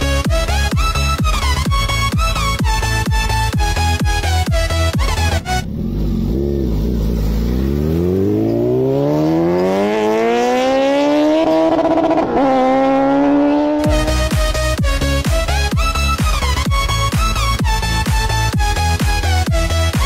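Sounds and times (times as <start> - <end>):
electronic music: 0.0 - 20.0
motorcycle engine accelerating: 1.3 - 20.0.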